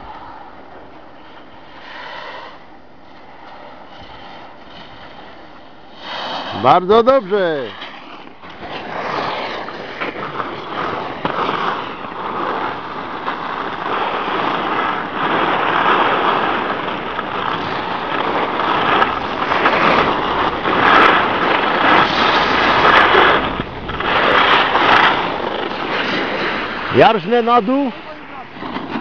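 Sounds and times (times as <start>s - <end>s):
skis scraping over snow: 0.0s - 29.0s.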